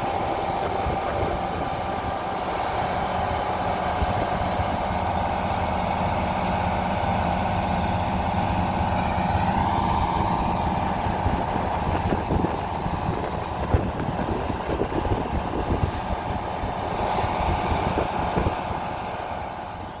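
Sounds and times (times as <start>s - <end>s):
deep engine drone: 0.0s - 20.0s.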